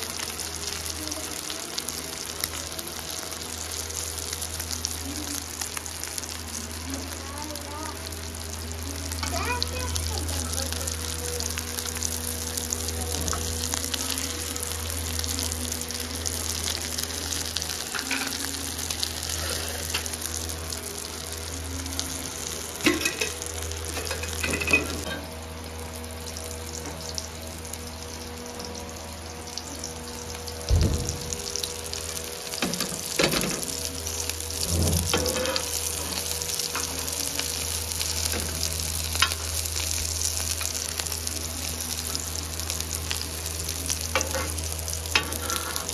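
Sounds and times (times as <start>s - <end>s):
kebabs sizzling in oil: 0.0s - 45.9s.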